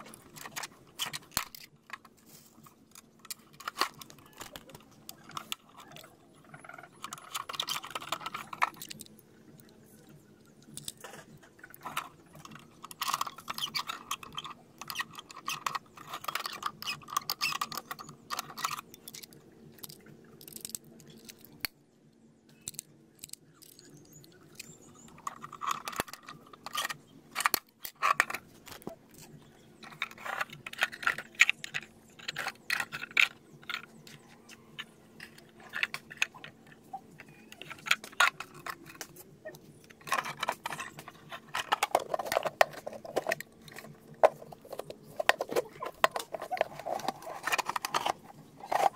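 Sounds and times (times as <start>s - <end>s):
metal parts clicking and rattling: 0.0s - 21.7s, 22.5s - 48.9s
faint steady hum: 0.0s - 48.9s.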